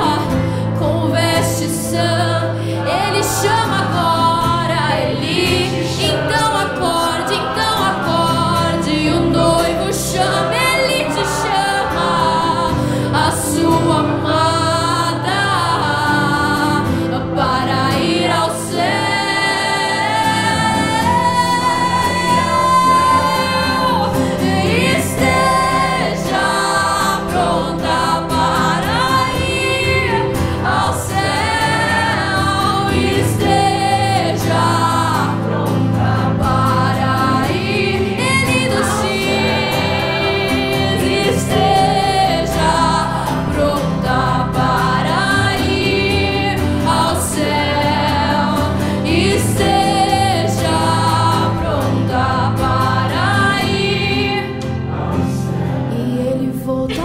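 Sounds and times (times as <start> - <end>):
woman singing: 0.0 - 54.8, 55.9 - 57.0
acoustic guitar: 0.0 - 57.0
keyboard: 0.0 - 57.0
voices singing along: 0.0 - 57.0.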